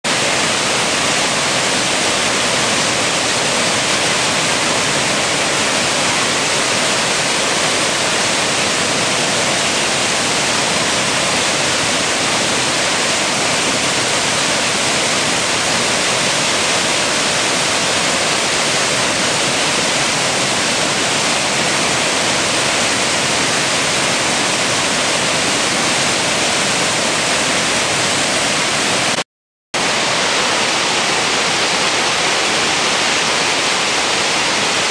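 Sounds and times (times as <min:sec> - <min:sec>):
water rushing from dam spillway: 0:00.1 - 0:29.2, 0:29.8 - 0:34.9.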